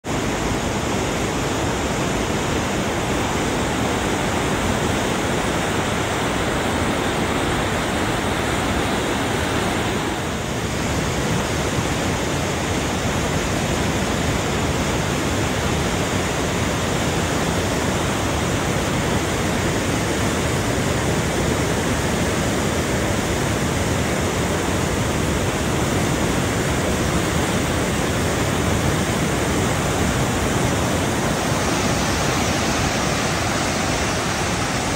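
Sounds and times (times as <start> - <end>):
river rushing through rapids: 0.0 - 34.9.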